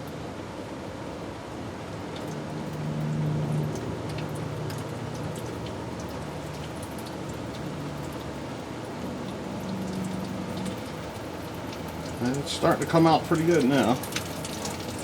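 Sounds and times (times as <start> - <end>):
fluid trickling: 1.9 - 15.0
fluid dripping: 2.0 - 15.0.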